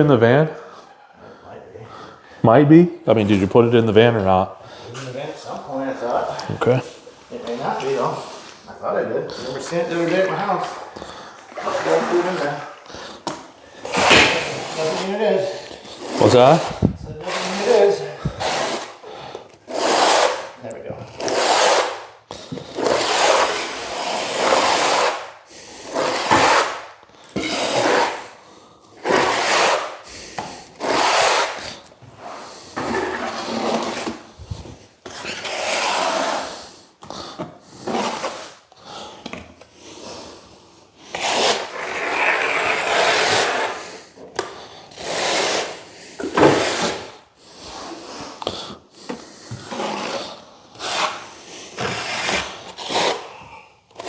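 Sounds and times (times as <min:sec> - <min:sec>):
hand tool scraping hard surface: 0:03.2 - 0:25.2, 0:25.8 - 0:26.8, 0:27.4 - 0:28.4, 0:29.0 - 0:39.3, 0:41.1 - 0:54.0.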